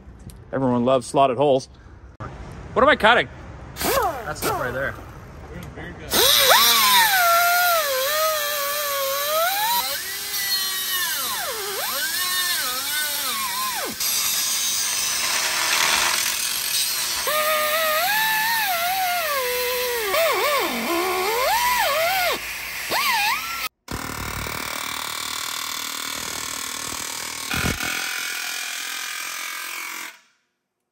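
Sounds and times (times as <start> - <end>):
cut-off tool whining: 3.8 - 4.8, 6.1 - 30.2.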